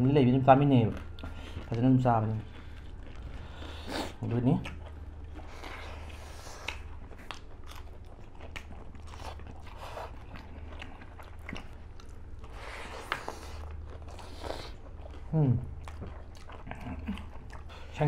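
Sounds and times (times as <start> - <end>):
people chewing and crunching: 0.0 - 18.0
steady low hum: 0.0 - 18.0.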